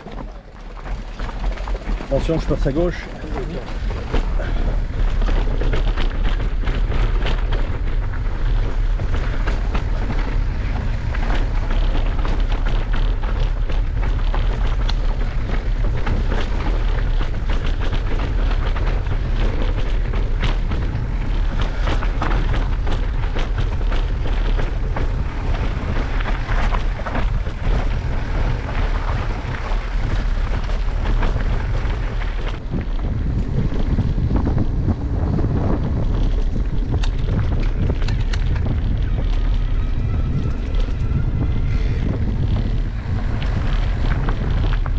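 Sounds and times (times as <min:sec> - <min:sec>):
mountain bike rattling on rough trail: 0:00.0 - 0:44.9
wind rumbling on microphone: 0:00.0 - 0:44.9.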